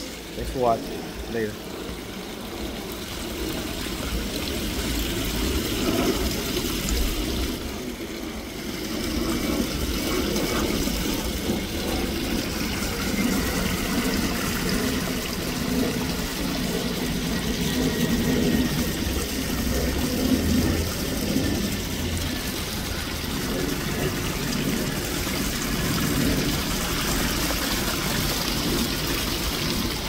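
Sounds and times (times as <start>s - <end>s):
pond water splashing and gurgling: 0.0s - 30.0s.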